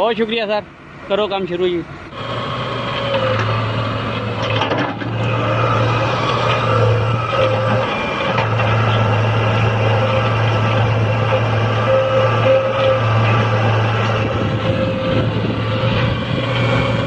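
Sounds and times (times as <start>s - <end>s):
excavator diesel engine running: 0.0s - 17.0s
high whine: 3.2s - 17.0s.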